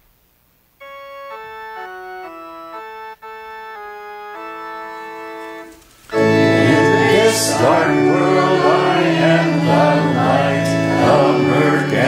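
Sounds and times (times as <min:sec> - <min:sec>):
organ playing held chords: 0:00.8 - 0:12.0.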